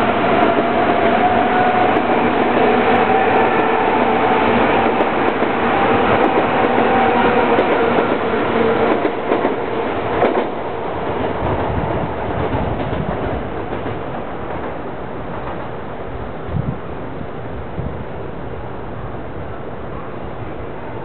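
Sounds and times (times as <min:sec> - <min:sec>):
train hum with held tones: 0:00.0 - 0:21.0
wheel on rail noise: 0:00.0 - 0:21.0.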